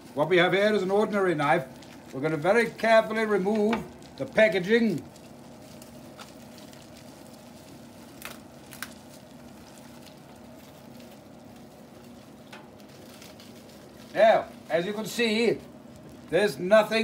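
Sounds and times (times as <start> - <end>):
plastic wrap crackling: 0.0 - 17.0.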